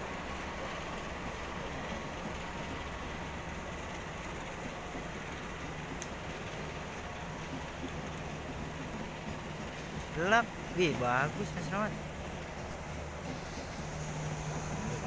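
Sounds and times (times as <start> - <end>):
train rolling heard from inside: 0.0 - 15.0.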